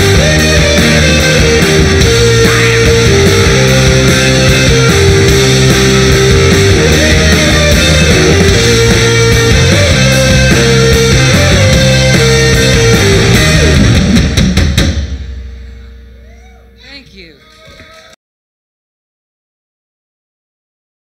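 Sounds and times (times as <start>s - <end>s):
rock band instrumental: 0.0s - 17.4s.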